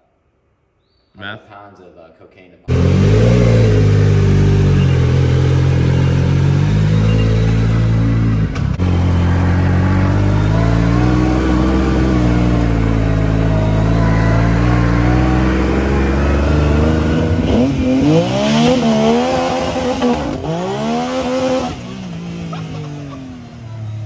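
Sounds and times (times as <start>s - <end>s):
vehicle engine running: 2.7s - 24.0s.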